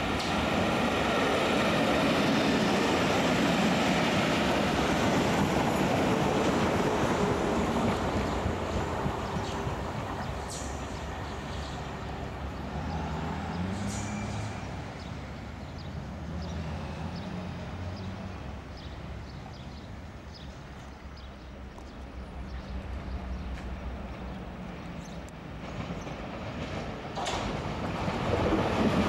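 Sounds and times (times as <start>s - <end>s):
another train passing: 0.0s - 29.0s
train motor hum and wheel noise: 0.0s - 29.0s.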